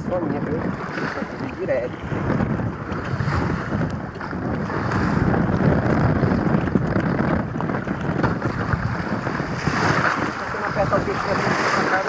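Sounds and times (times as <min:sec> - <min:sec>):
water washing against boat hull: 0:00.0 - 0:12.0
wind buffeting microphone: 0:00.0 - 0:12.0.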